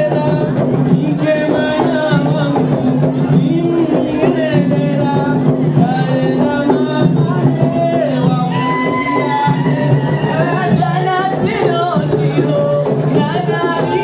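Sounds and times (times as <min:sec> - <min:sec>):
drums beating a rhythm: 0:00.0 - 0:14.0
voices singing: 0:00.0 - 0:14.0.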